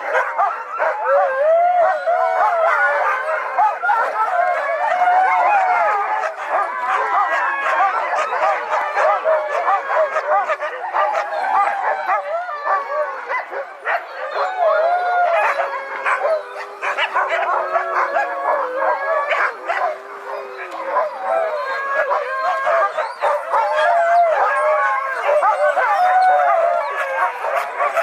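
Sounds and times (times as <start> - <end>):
dogs howling: 0.0 - 28.0
dogs yipping and barking: 0.0 - 28.0.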